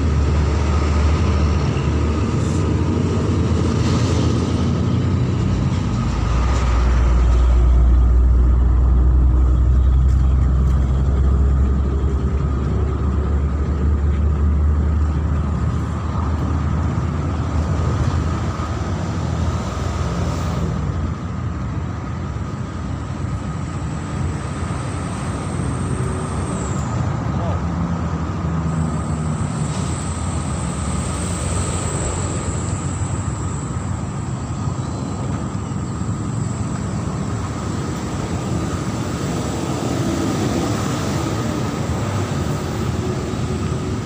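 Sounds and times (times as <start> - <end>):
heavy vehicle engine rumbling: 0.0 - 44.0.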